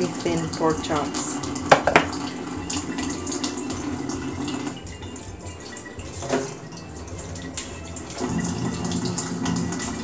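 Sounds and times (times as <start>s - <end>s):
faucet running into metal sink: 0.0s - 10.0s.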